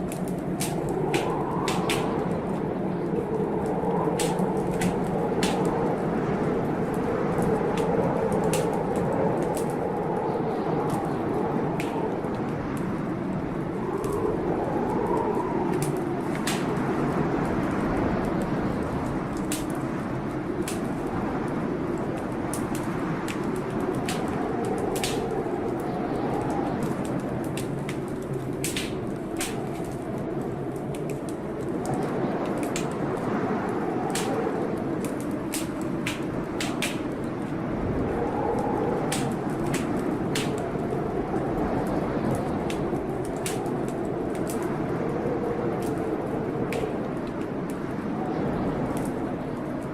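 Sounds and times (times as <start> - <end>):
howling blizzard wind: 0.0 - 49.9
wood fire crackling: 0.0 - 49.9.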